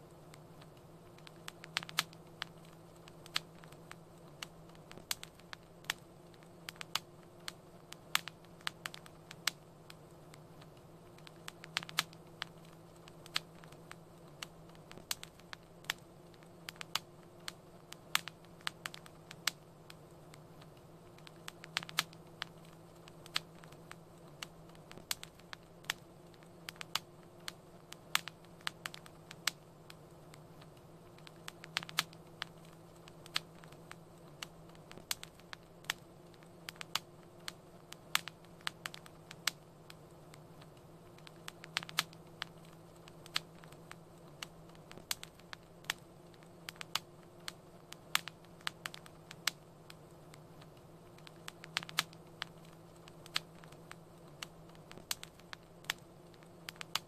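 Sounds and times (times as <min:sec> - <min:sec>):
low steady hum: 0:00.0 - 0:57.0
wood fire crackling: 0:00.0 - 0:57.0.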